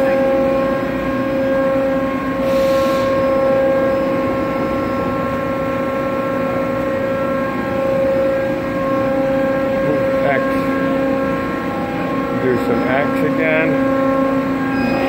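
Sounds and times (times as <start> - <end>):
drill machine humming: 0.0 - 15.0.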